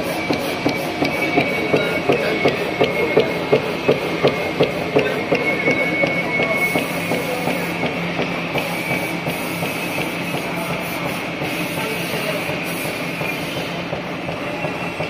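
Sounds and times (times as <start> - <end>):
die cutting machine clatter: 0.0 - 15.0.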